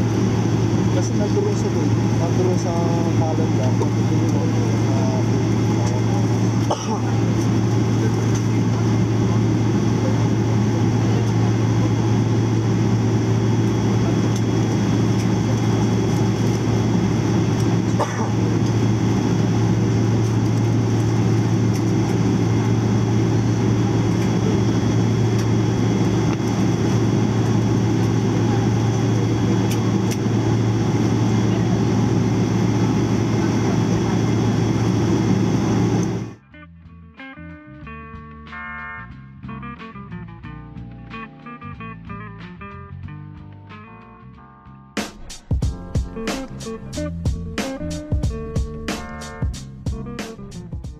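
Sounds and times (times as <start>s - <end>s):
airplane cabin drone: 0.0s - 36.4s, 45.0s - 50.9s.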